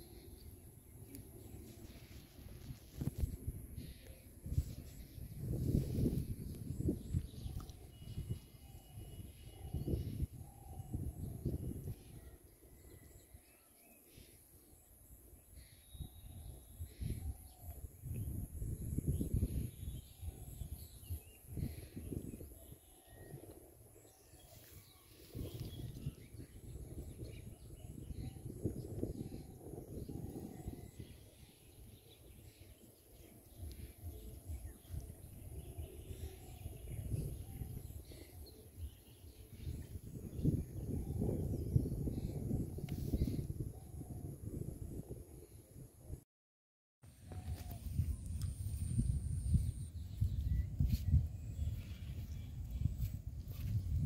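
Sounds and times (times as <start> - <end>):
wind buffeting microphone: 0.0 - 13.2, 15.5 - 46.2, 47.2 - 54.0.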